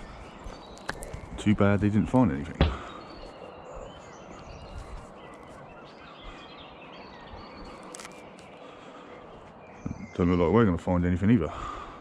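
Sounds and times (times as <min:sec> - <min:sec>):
faint bird chirps: 0:00.0 - 0:12.0
outdoor background noise: 0:00.0 - 0:12.0.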